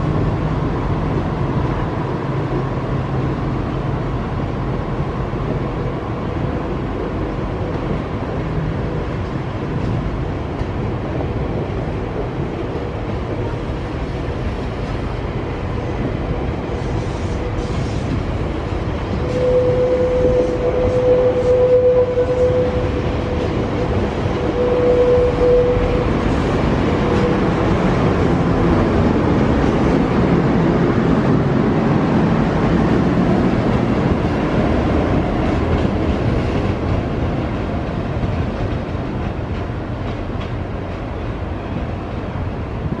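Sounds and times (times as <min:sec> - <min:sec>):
train rumbling over rails: 0:00.0 - 0:43.0.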